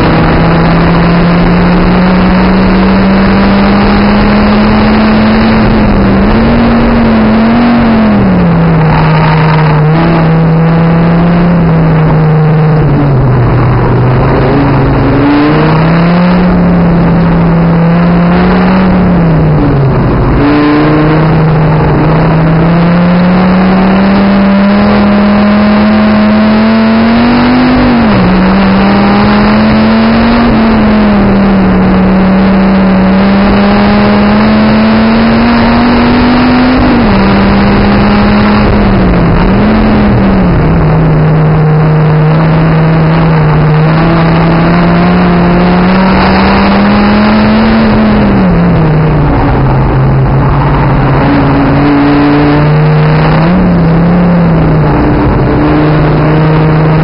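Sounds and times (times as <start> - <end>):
race car engine at full speed: 0.0 - 57.0.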